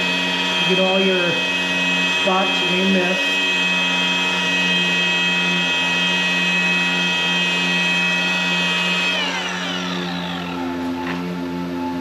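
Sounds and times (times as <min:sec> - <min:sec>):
electric polisher motor whine: 0:00.0 - 0:12.0.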